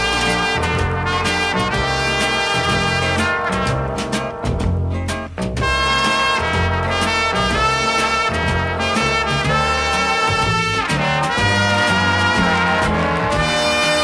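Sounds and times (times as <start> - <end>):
bass line: 0.0 - 14.0
trumpets and trombones playing: 0.0 - 14.0.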